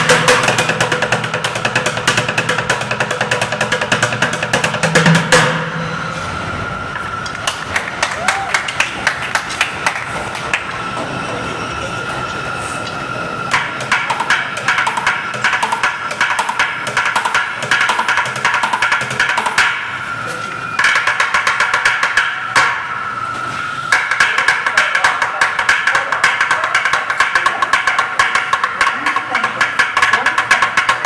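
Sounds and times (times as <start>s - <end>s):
steady high hum: 0.0s - 31.0s.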